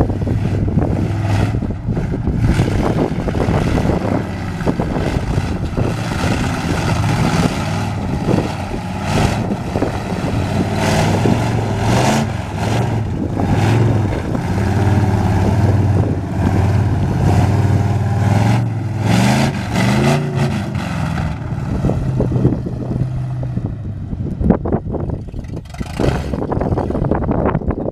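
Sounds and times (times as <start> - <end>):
truck engine revving: 0.0 - 27.6
wind buffeting microphone: 0.0 - 27.9.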